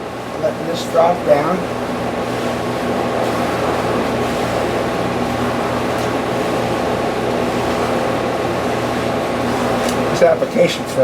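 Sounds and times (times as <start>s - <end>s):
ventilation fan humming: 0.0s - 11.0s.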